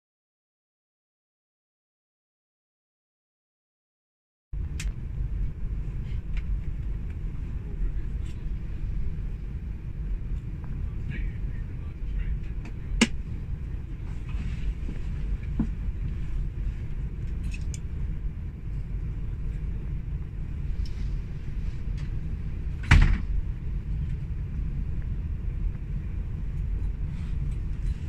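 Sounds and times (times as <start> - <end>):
train interior rumble: 4.6 - 28.0.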